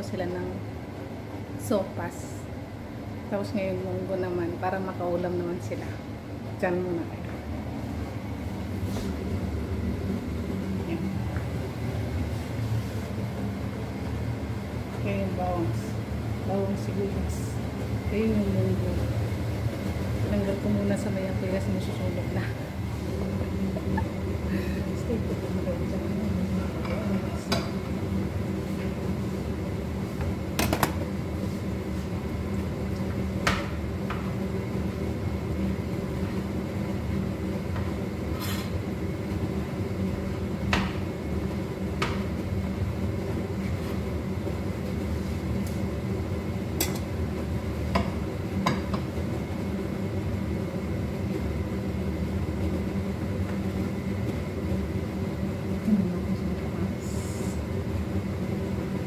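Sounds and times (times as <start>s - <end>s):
extractor fan humming: 0.0s - 59.0s.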